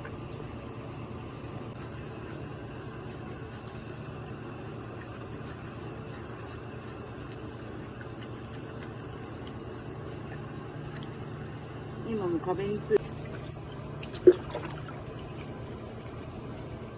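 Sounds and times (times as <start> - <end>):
low mechanical motor hum: 0.0 - 16.9.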